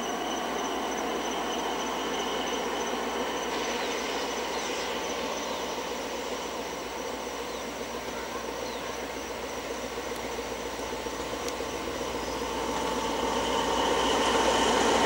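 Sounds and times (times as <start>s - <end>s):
locomotive engine running: 0.0s - 15.0s
train carriages rolling on track: 0.0s - 15.0s.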